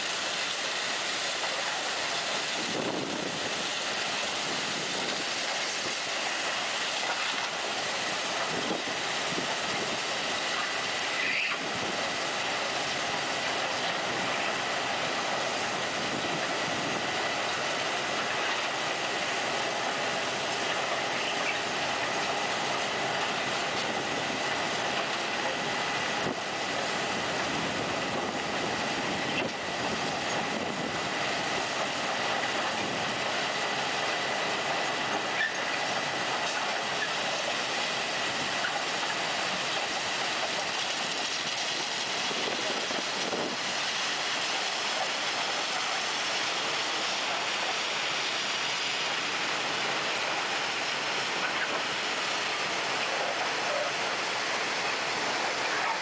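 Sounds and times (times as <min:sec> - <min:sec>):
work train machinery din: 0:00.0 - 0:56.0.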